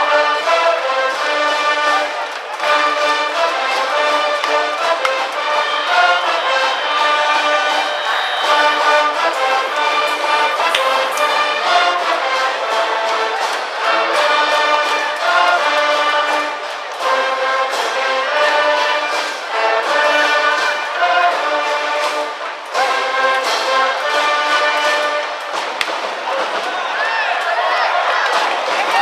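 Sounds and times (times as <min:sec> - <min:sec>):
brass band playing: 0:00.0 - 0:29.0
steady percussion beat: 0:00.0 - 0:29.0.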